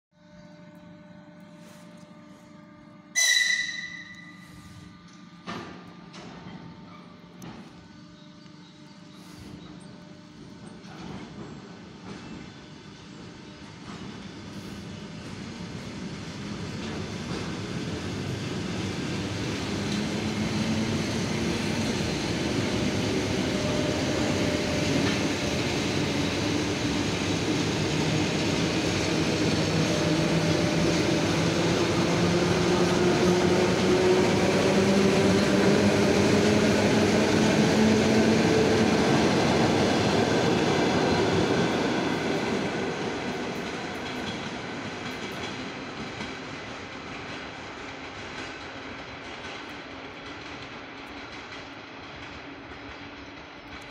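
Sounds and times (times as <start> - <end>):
train wheels clattering on rails: 5.1 - 7.9, 10.6 - 53.9.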